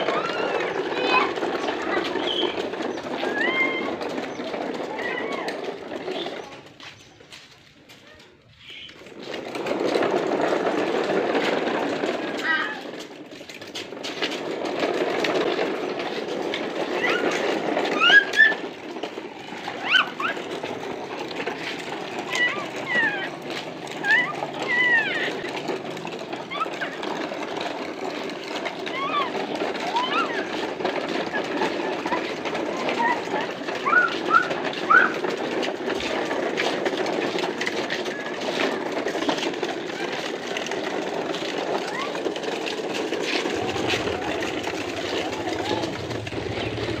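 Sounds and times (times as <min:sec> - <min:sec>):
toy truck rattling over asphalt: 0:00.0 - 0:47.0.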